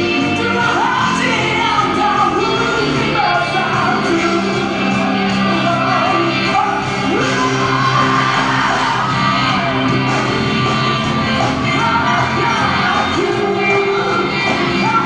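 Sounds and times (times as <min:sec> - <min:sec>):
man singing: 0:00.0 - 0:09.0, 0:11.5 - 0:15.0
drums playing: 0:00.0 - 0:15.0
electric guitars: 0:00.0 - 0:15.0.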